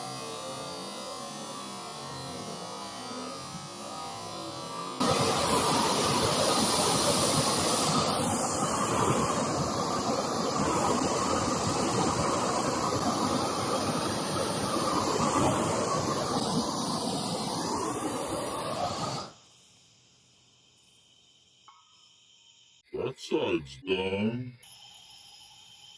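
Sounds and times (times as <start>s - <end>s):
gas torch flame hissing: 2.6s - 22.8s, 24.6s - 25.9s.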